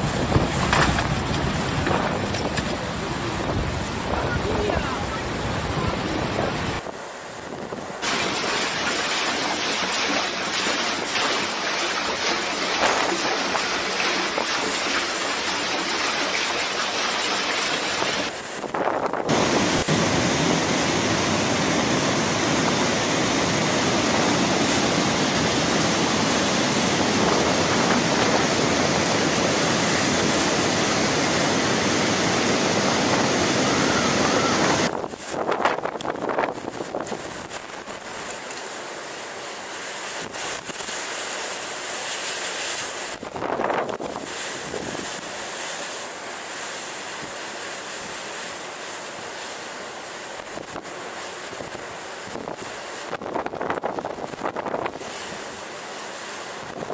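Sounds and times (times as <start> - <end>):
rushing floodwater: 0.0 - 56.9.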